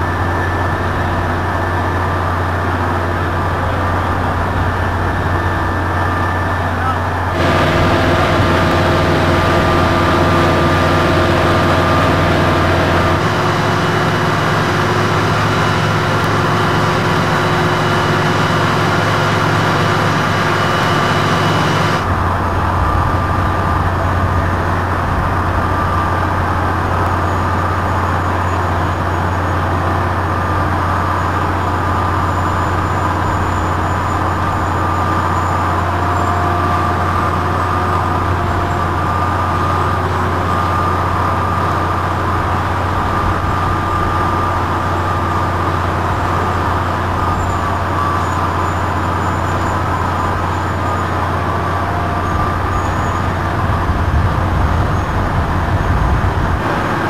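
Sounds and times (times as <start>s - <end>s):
heavy engine and hydraulics droning: 0.0s - 57.0s.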